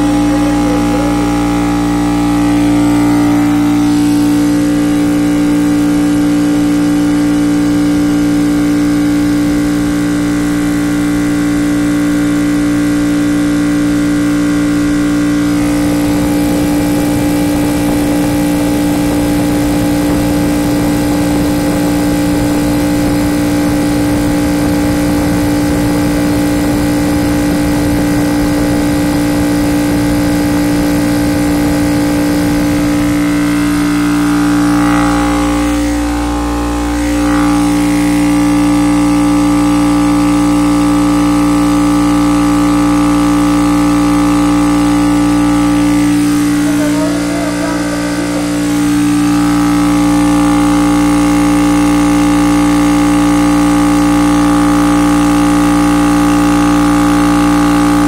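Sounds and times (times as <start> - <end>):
air compressor humming: 0.0 - 58.0.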